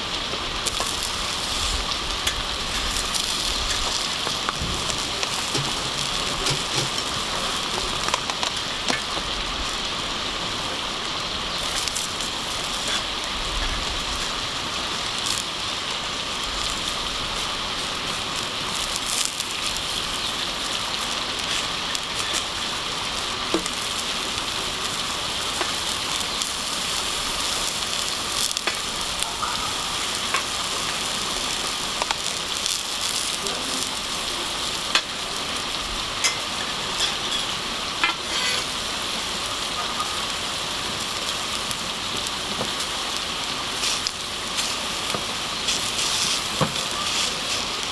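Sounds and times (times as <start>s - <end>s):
campfire pops and crackles: 0.0s - 47.9s
food sizzling in a pan: 0.0s - 47.9s.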